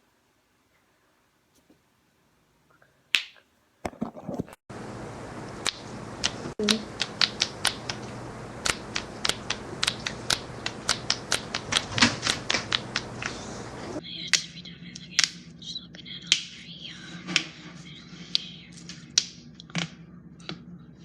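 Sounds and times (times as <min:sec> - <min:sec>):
low steady hum: 0:03.9 - 0:21.0.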